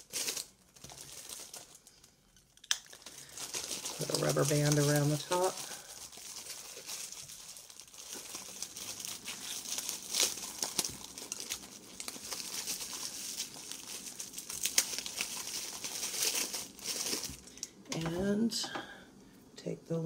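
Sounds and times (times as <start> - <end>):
plastic bag crinkling: 0.0 - 18.2.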